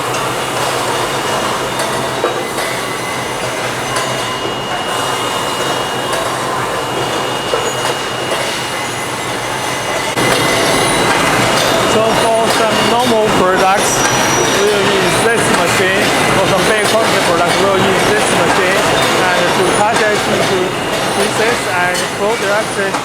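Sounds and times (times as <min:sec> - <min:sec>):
bar cutting machine din: 0:00.0 - 0:23.0
high machine whine: 0:00.0 - 0:23.0.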